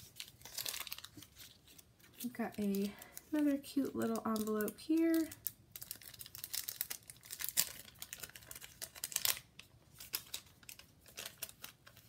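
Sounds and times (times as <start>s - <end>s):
paper envelope crinkling: 0.0s - 12.0s.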